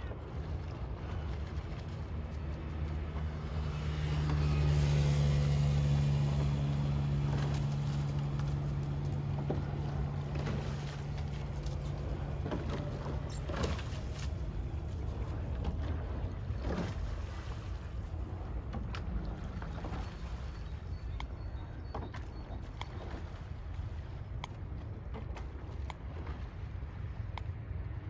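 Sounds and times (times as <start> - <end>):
engine humming: 0.7 - 28.0.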